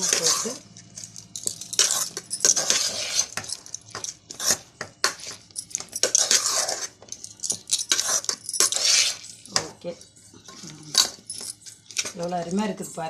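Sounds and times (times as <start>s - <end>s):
spoon scraping a pot: 0.0s - 12.2s.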